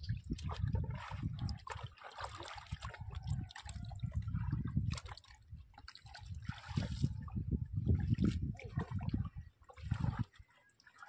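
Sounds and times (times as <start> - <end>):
water sloshing and dripping: 0.0 - 11.0.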